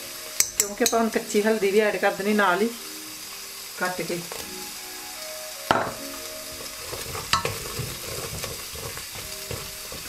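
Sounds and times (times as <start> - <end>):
masala sizzling in hot oil: 0.0 - 10.0.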